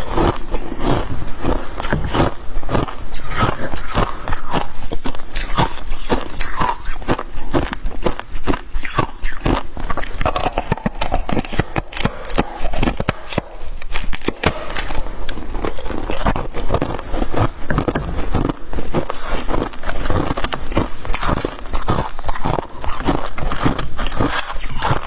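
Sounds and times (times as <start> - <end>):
frost being chewed crunching: 0.0 - 25.0.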